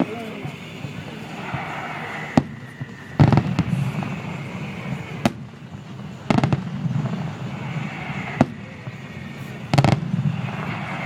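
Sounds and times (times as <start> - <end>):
firework bangs: 0.0 - 11.0
low rumble: 0.0 - 11.0.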